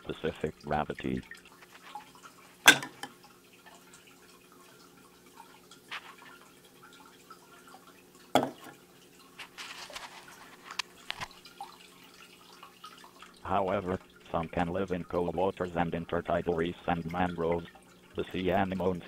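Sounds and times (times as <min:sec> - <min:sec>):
faint steady hum: 0:00.0 - 0:19.0
water dripping and splashing: 0:00.0 - 0:19.0.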